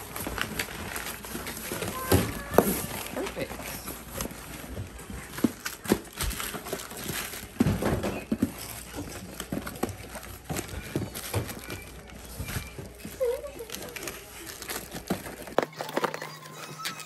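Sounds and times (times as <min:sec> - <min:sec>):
bubble wrap rustling: 0:00.0 - 0:17.0.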